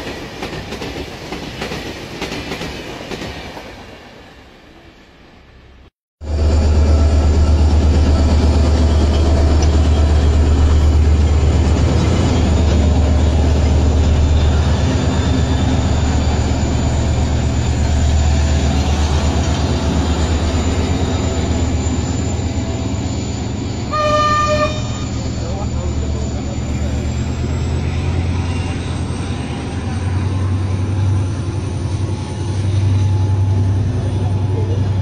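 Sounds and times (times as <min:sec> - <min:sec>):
train coaches passing: 0:00.0 - 0:35.0
diesel locomotive deep rumble: 0:06.2 - 0:35.0.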